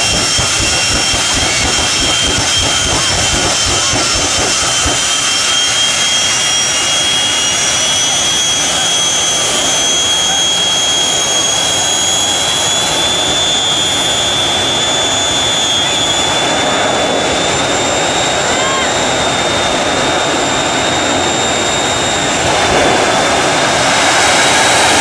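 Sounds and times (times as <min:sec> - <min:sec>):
jet engine running with whine: 0:00.0 - 0:25.0.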